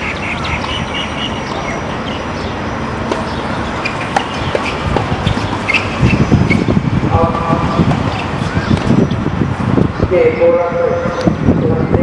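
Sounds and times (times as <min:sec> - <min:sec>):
indoor tennis hall background noise: 0:00.0 - 0:12.0.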